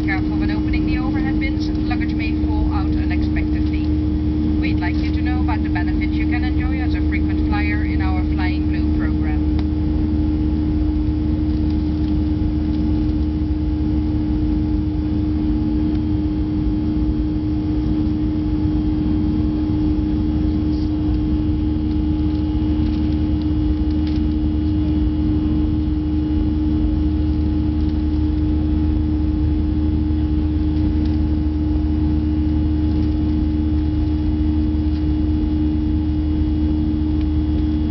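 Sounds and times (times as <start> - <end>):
jet engine cabin drone: 0.0 - 37.9.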